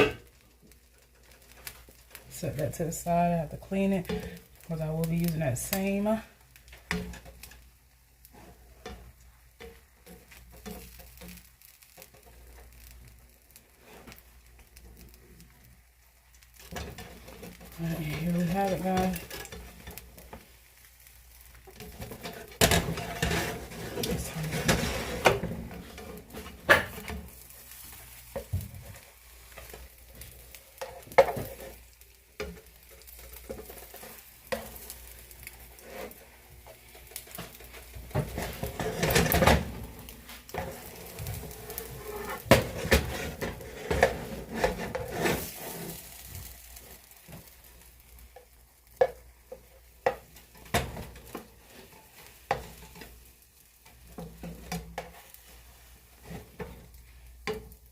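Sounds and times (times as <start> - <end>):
omelet sizzling: 0.0 - 57.9
utensil scraping frying pan: 0.0 - 57.9.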